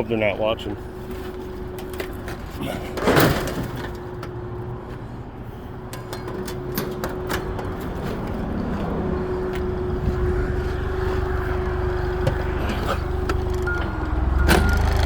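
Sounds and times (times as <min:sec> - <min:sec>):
engine running: 0:00.8 - 0:15.0.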